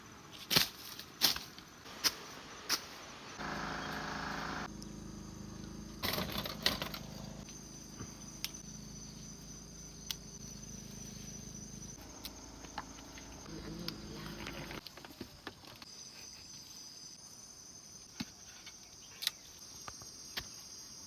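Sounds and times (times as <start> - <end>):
night insects chirping: 0.9 - 21.0.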